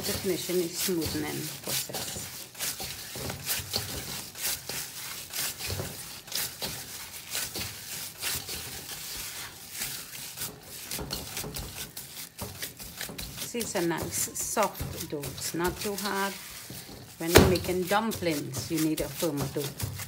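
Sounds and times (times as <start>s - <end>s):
dough slapping in steel bowl: 0.0s - 20.0s.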